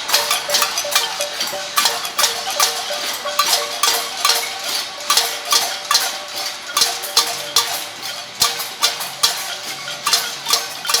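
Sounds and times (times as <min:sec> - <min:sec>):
pots and pans banging: 0:00.0 - 0:11.0.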